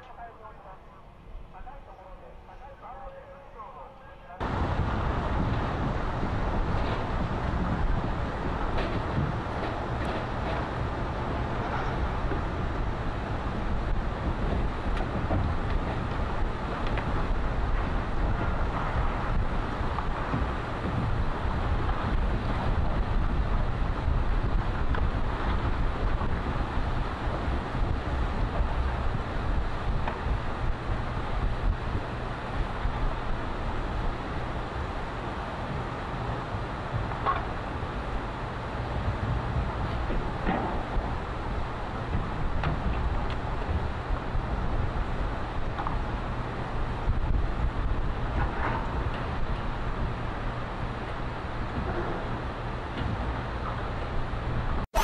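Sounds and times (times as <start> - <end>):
wind buffeting microphone: 4.4 - 55.0.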